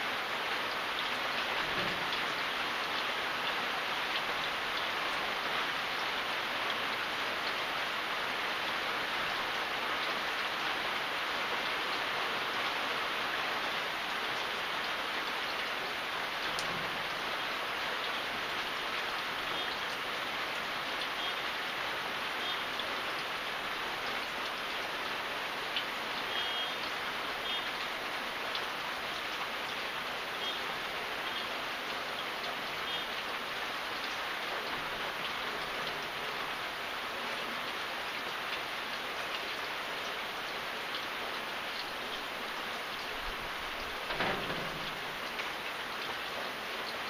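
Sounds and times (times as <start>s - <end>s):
steady rainfall hiss: 0.0s - 47.0s.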